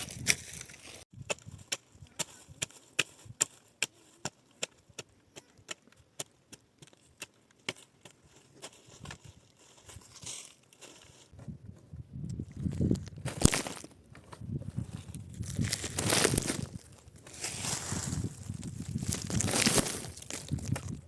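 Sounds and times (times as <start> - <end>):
rustling and crinkling: 0.0 - 4.6, 7.0 - 21.0.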